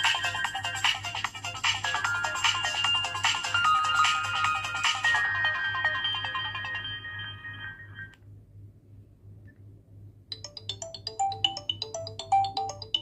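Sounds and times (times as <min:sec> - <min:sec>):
phone ringtone melody: 0:00.0 - 0:08.2, 0:10.3 - 0:13.0.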